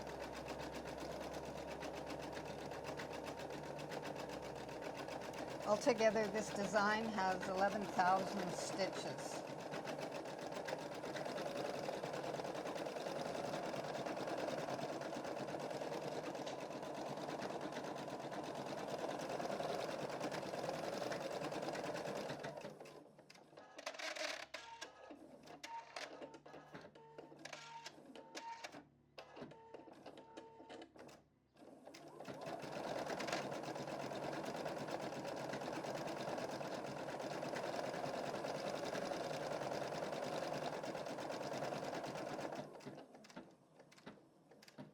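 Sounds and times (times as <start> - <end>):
embroidery machine stitching: 0.0 - 43.9.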